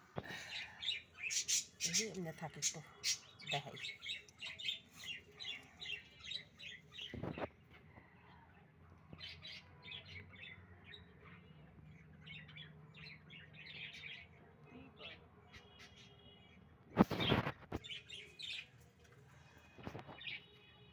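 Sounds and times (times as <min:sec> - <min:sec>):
small birds chirping: 0:00.2 - 0:08.2, 0:09.1 - 0:18.8.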